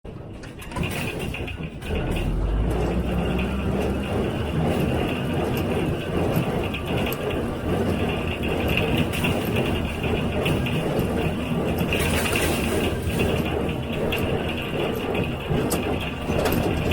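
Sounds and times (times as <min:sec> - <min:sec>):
baler machinery clattering: 0:00.1 - 0:16.9.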